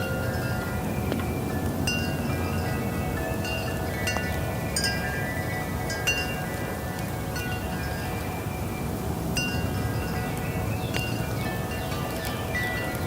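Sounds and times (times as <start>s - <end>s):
low background rush: 0.0s - 13.0s
wind chimes ringing: 0.0s - 13.0s.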